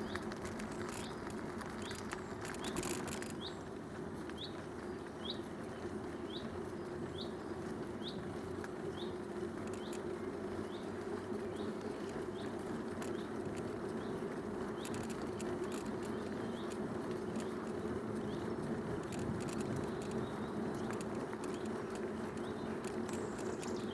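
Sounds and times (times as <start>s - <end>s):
bicycle tyre and wind noise: 0.0s - 23.9s.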